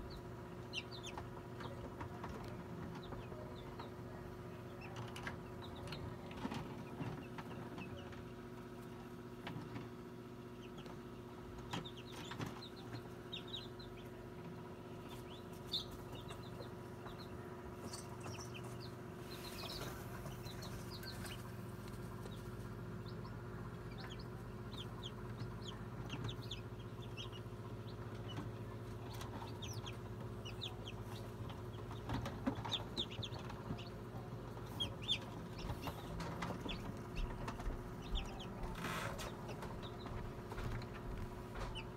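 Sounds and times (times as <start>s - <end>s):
chicks peeping: 0.0s - 41.9s
incubator hum: 0.0s - 41.9s.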